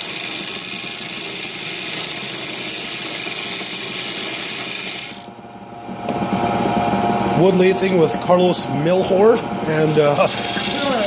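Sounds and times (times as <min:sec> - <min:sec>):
lathe tool cutting wood: 0:00.0 - 0:05.4, 0:06.1 - 0:11.0
lathe motor hum: 0:00.0 - 0:11.0.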